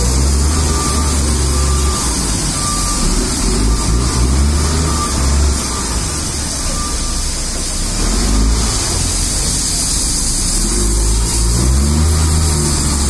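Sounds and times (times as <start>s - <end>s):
diesel engine rumbling and revving: 0.0s - 13.0s.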